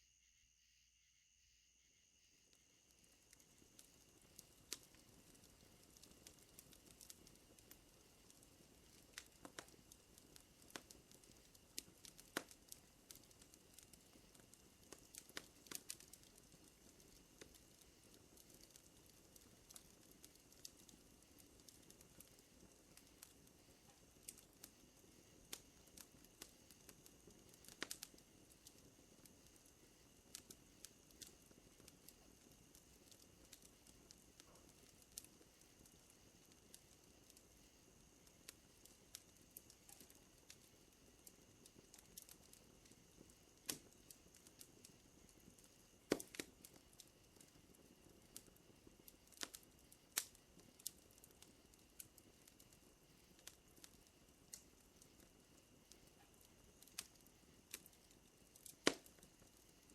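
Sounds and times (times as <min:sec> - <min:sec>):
faint wood fire crackling: 0:02.4 - 0:59.9.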